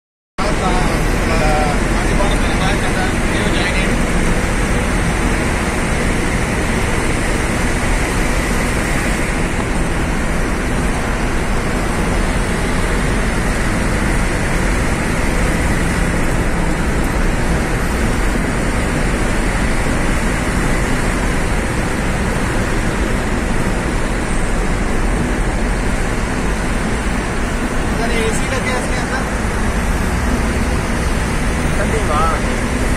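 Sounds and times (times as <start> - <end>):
truck running ahead: 0.4 - 32.9
vehicle driving through tunnel: 0.4 - 32.9.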